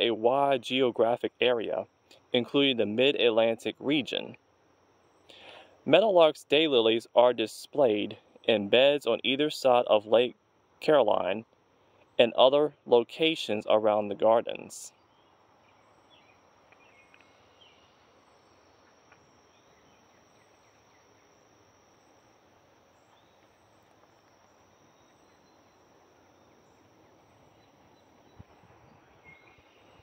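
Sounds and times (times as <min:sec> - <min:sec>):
faint chirps: 0:00.0 - 0:06.0, 0:06.9 - 0:30.0
high-pitched insect drone: 0:00.0 - 0:30.0.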